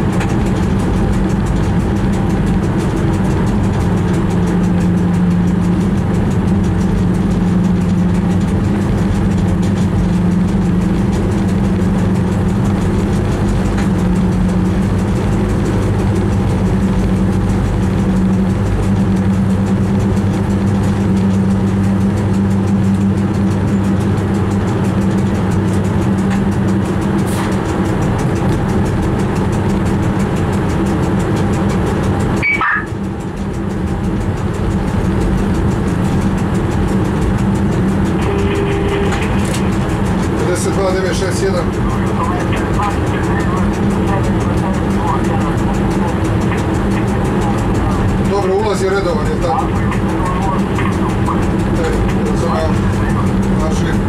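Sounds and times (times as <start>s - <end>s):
train cab drone: 0.0s - 54.0s.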